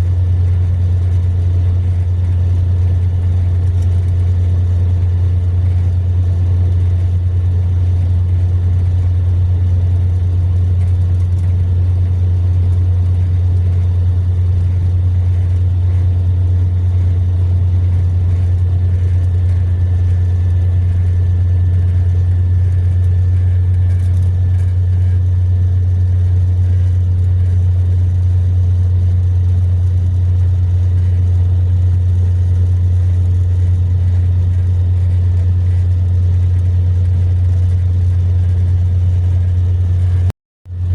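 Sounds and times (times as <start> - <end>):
coach engine and road drone: 0.0 - 40.9.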